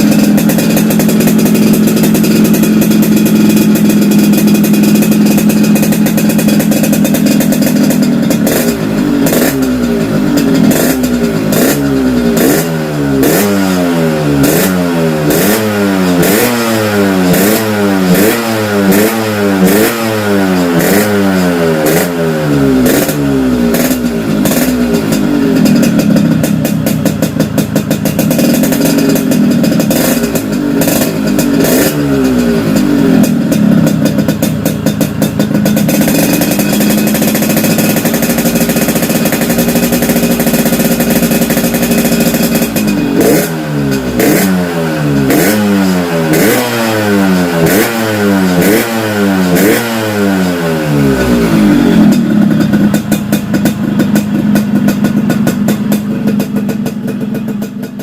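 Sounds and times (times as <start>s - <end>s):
exhaust crackles: 0.0s - 57.6s
two-stroke motorcycle revving: 0.0s - 58.0s.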